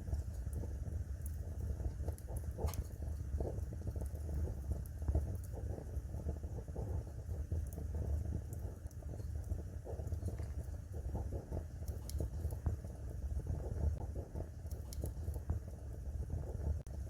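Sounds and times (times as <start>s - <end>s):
fire crackling in fireplace: 0.0s - 17.0s
low rumble of flames: 0.0s - 17.0s.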